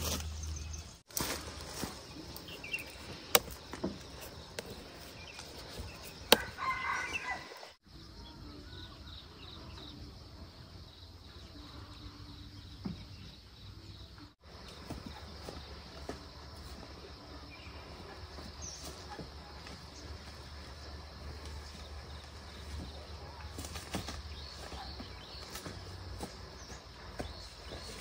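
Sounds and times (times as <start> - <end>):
rural outdoor ambience: 0.0 - 28.0.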